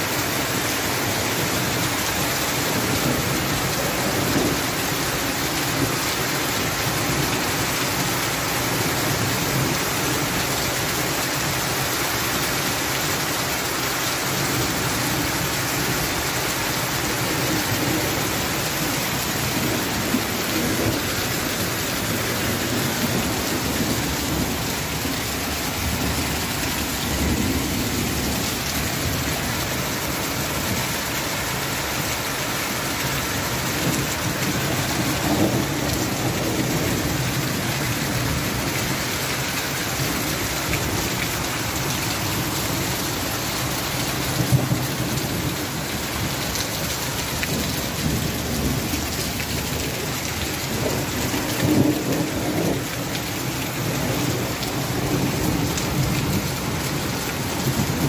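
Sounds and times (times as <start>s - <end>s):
hail and heavy rain pelting: 0.0s - 58.0s.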